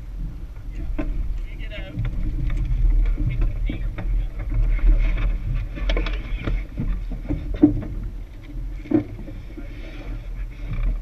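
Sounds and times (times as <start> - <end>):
sailboat knocks and thuds: 0.0 - 11.0
steady low rumble: 0.0 - 11.0.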